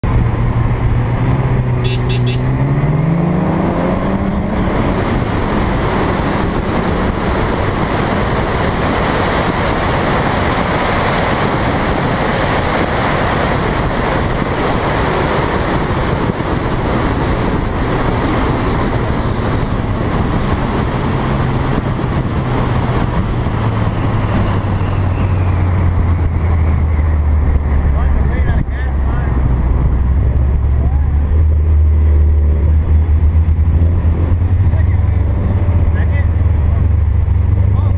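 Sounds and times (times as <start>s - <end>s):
car engine: 0.0s - 37.9s
wind and road rush: 0.0s - 37.9s.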